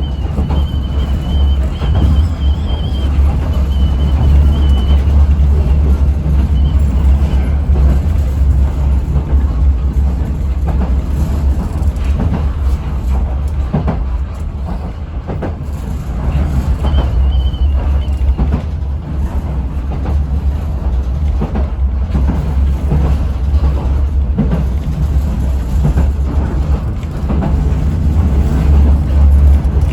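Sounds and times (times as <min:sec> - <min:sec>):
train interior rumble: 0:00.0 - 0:29.9
wheels clacking over rail joints: 0:00.0 - 0:29.9.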